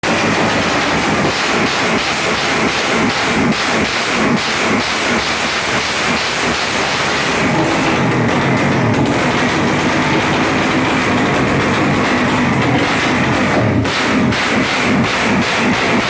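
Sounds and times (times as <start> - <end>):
motorcycle engine running rough: 0.0 - 16.0.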